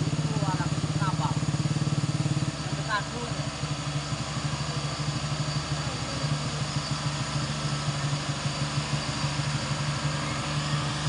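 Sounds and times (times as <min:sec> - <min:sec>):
truck diesel engine at low revs: 0:00.0 - 0:11.0.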